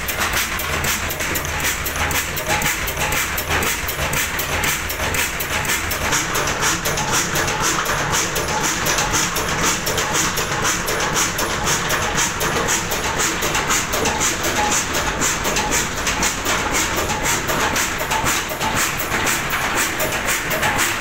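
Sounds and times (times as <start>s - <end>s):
stationary diesel engine running: 0.0s - 21.0s.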